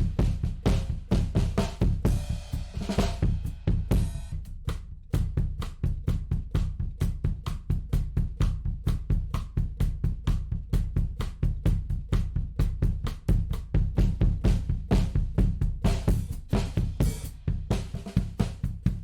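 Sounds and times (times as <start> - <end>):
drum kit playing fast groove: 0.0 - 19.0.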